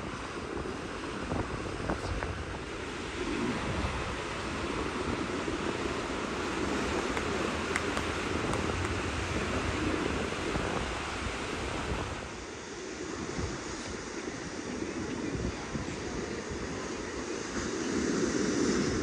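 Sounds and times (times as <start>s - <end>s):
surf waves breaking on beach: 0.0s - 19.0s
wind rumbling on microphone: 0.0s - 19.0s.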